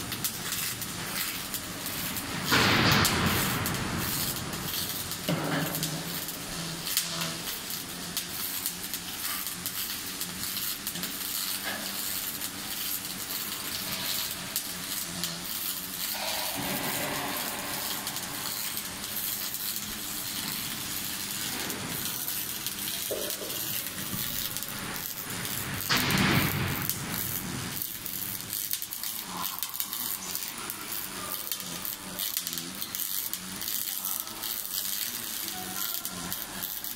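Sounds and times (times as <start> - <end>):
arc welding crackle and hiss: 0.0 - 36.9.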